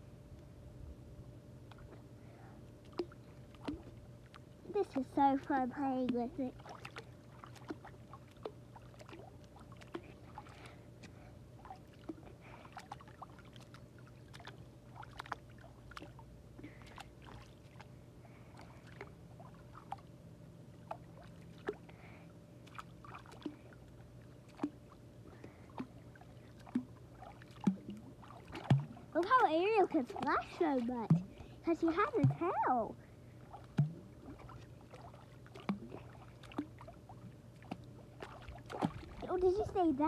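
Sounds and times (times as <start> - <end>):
faint low hum: 0.0 - 40.0
pool water splashing: 1.6 - 40.0.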